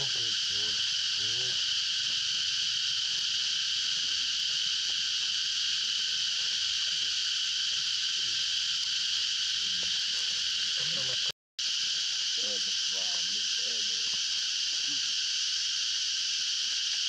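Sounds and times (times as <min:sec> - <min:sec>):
insect chorus hissing: 0:00.0 - 0:17.0.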